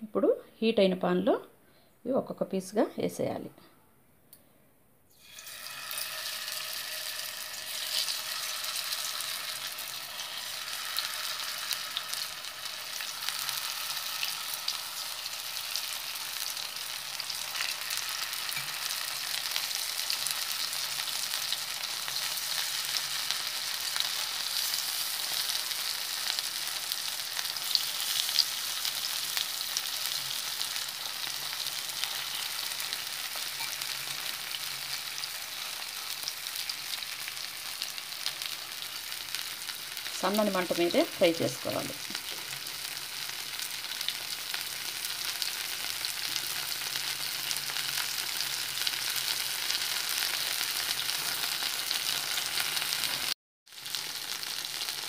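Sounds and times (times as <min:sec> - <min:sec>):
food sizzling in a pan: 0:05.1 - 0:55.0.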